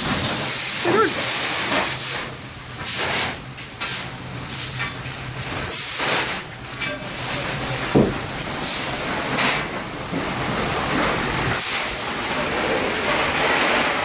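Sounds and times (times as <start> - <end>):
fire hissing and crackling: 0.0 - 14.0.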